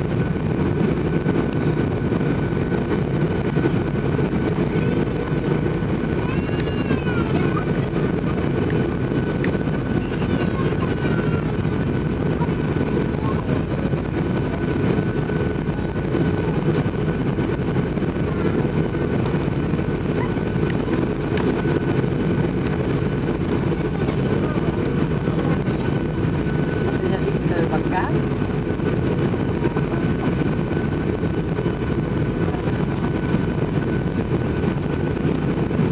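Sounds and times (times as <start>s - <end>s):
jet engines and rushing airflow: 0.0s - 35.9s
thin steady whine: 0.0s - 35.9s.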